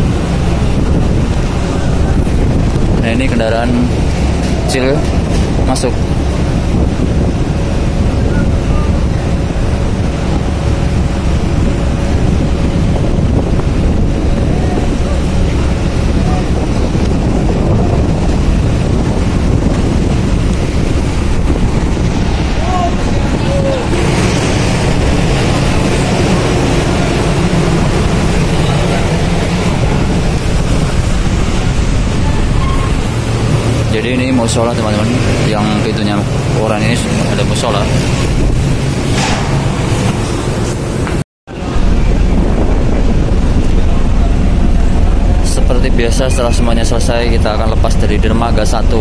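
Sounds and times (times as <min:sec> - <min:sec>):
low ferry rumble: 0:00.0 - 0:49.0
wind buffeting microphone: 0:00.0 - 0:49.0.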